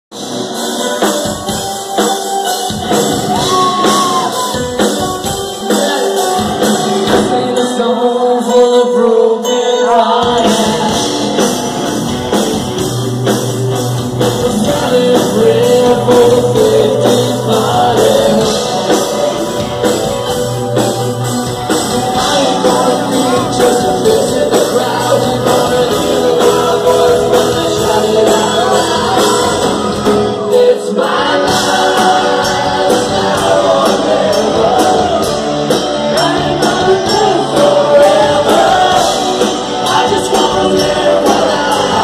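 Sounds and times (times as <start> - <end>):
live rock band playing: 0.1 - 42.0
person singing lead vocal: 0.2 - 12.0, 14.1 - 42.0.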